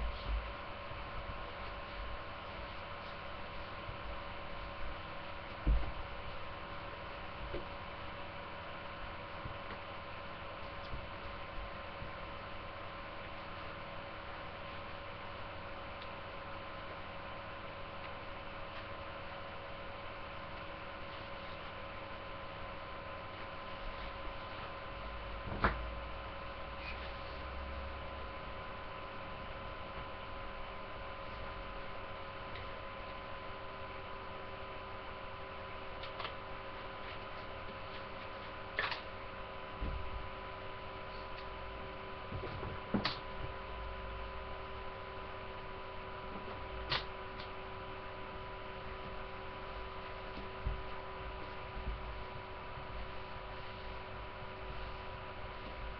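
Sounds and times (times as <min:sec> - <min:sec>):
steady electrical hum: 0:00.0 - 0:55.9.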